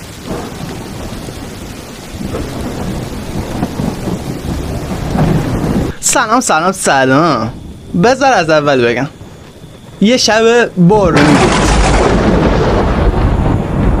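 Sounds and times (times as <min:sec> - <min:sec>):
heavy rain pouring: 0:00.0 - 0:14.0
low rolling thunder: 0:00.0 - 0:14.0.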